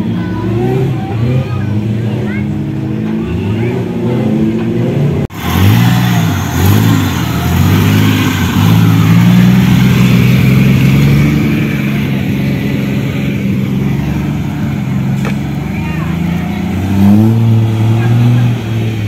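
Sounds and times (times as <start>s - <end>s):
off-road buggy engine revving: 0.0s - 19.0s.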